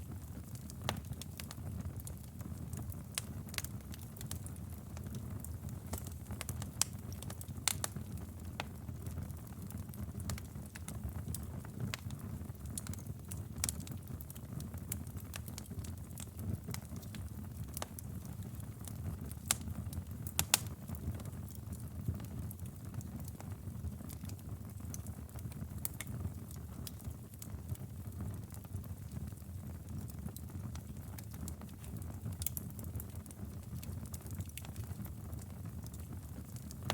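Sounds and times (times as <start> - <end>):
fire crackles and pops: 0.0 - 36.9.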